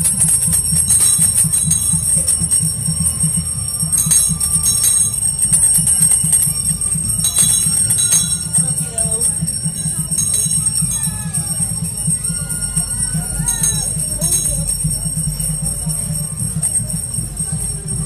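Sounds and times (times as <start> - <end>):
music with rapid pulsing beat: 0.0 - 18.0
small bells jingling: 0.0 - 18.0.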